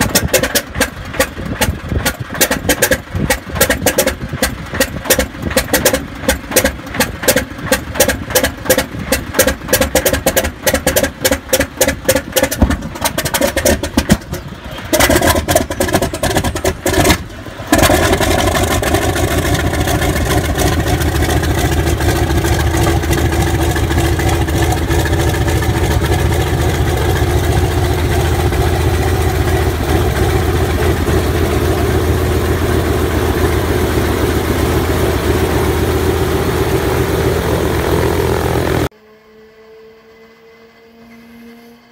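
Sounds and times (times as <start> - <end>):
radial aircraft engine starting: 0.0 - 41.7.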